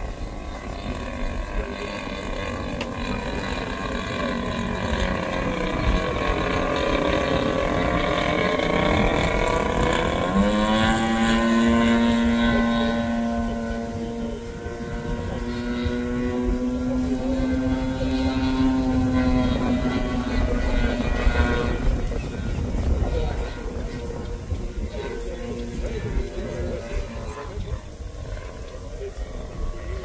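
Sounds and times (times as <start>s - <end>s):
model airplane engine running: 0.0s - 30.0s.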